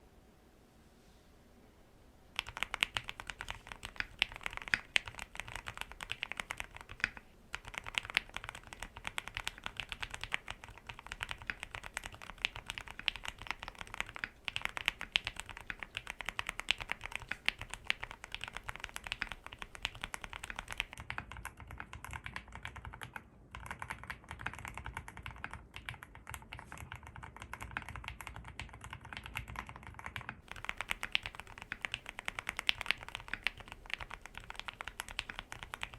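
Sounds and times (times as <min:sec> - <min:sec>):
mechanical keyboard typing: 0:02.4 - 0:35.9.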